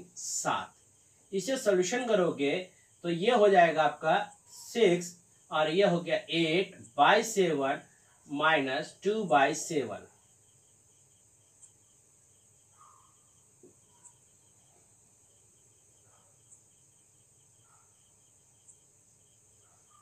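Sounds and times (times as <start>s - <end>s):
faint repeated ticking: 0.0s - 20.0s
steady high hiss: 0.0s - 20.0s.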